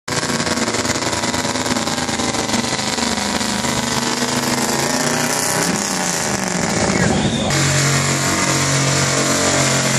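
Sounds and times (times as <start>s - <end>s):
truck engine running: 0.1s - 9.9s.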